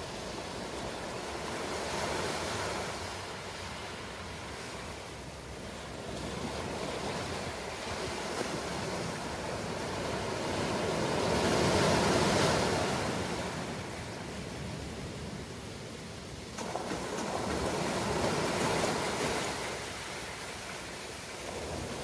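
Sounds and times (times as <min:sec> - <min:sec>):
ocean waves washing: 0:00.0 - 0:22.0.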